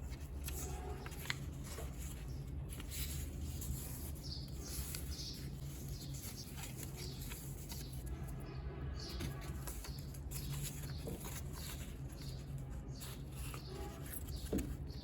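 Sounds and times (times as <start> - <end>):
paper rustling and creasing: 0.0 - 8.4, 9.0 - 15.0.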